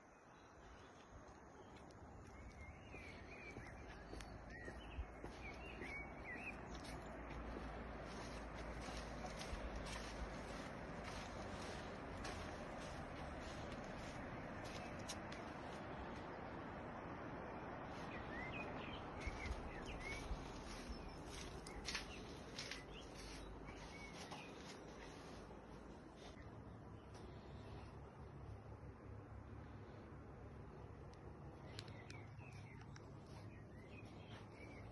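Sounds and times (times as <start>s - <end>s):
low background noise: 0.0s - 34.9s
small birds chirping: 0.0s - 34.9s.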